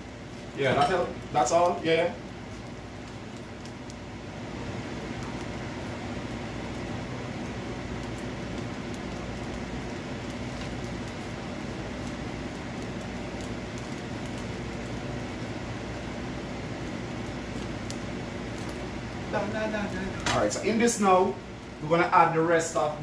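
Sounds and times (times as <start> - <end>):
fan whirring: 0.0 - 23.0.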